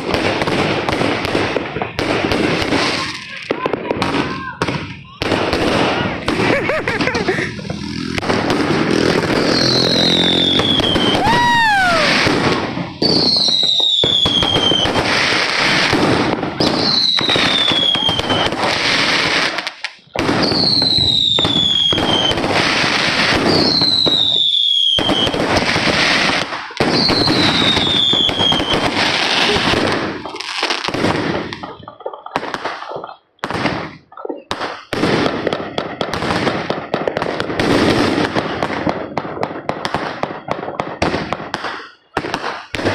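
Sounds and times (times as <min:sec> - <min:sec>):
fireworks crackling and popping: 0:00.0 - 0:42.9
whistling firework: 0:00.0 - 0:42.9.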